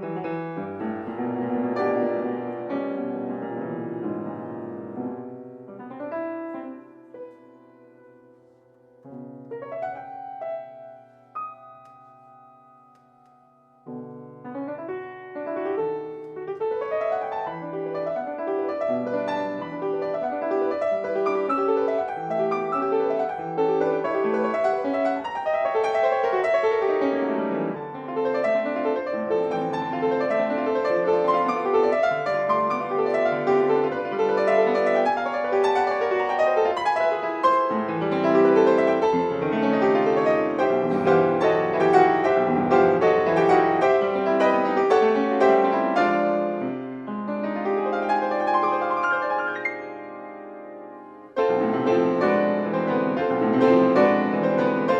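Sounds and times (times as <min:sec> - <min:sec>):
solo piano classical piece: 0:00.0 - 0:54.9.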